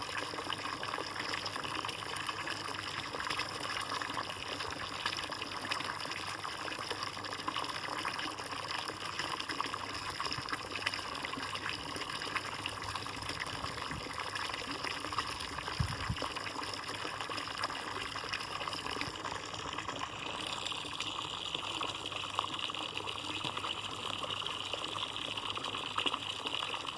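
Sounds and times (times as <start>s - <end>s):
water splashing in bird bath: 0.0s - 26.9s.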